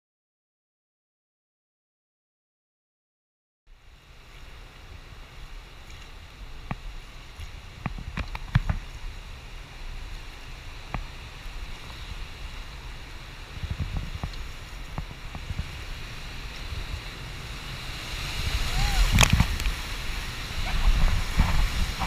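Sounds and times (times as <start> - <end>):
river water rushing: 3.7 - 22.0.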